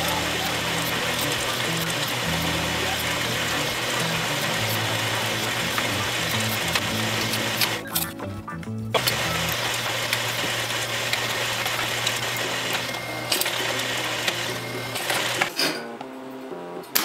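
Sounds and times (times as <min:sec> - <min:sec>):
drill press motor hum: 0:00.0 - 0:07.8, 0:09.0 - 0:15.6.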